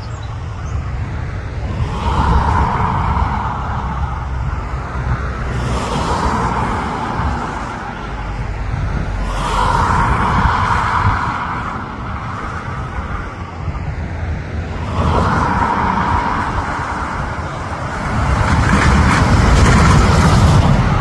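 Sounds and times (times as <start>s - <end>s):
rushing wind noise: 0.0s - 21.0s
wind buffeting microphone: 0.0s - 21.0s.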